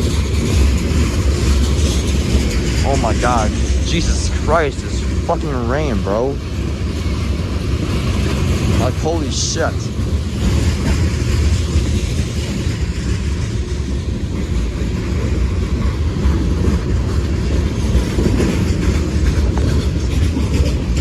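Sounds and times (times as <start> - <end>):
freight train rolling on rails: 0.0 - 21.0.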